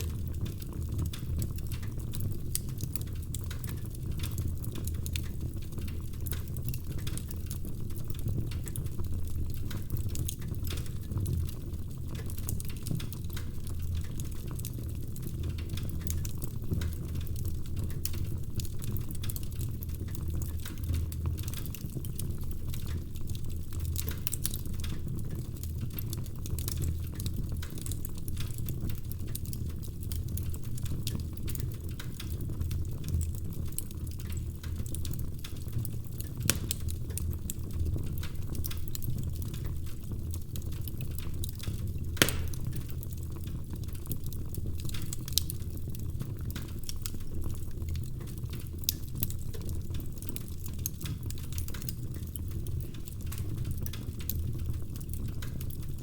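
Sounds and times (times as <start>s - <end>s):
logs crackling and popping: 0.0s - 56.0s
low rumble of flames: 0.0s - 56.0s.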